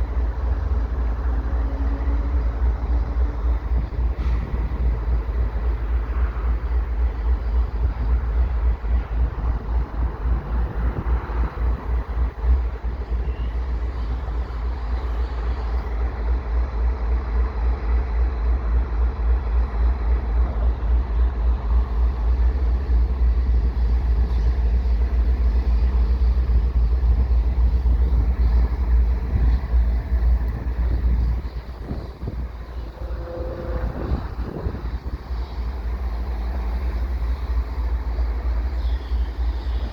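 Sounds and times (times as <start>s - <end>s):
wind buffeting microphone: 0.0s - 16.5s, 18.2s - 39.9s
faint steady tones: 0.0s - 39.9s
freight train rumbling past: 0.0s - 39.9s.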